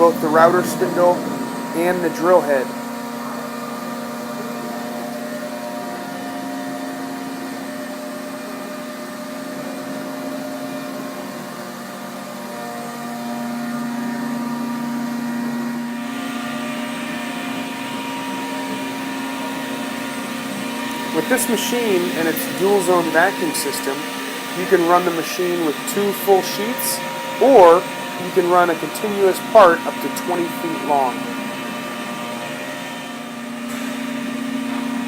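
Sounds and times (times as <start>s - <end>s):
cnc router spindle whine: 0.0s - 35.0s.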